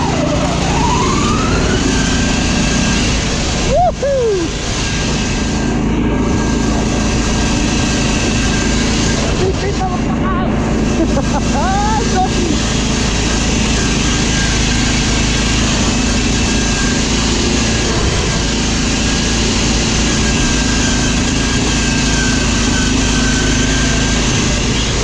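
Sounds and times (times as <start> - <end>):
riding lawn mower engine: 0.0 - 25.0.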